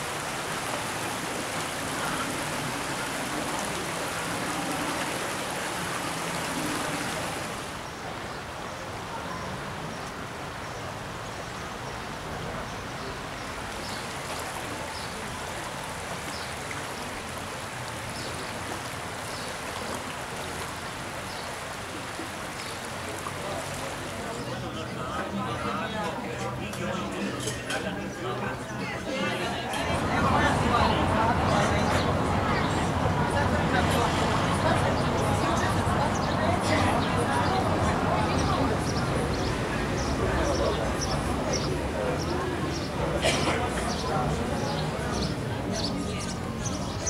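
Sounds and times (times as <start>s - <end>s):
stream running over stones: 0.0s - 47.0s.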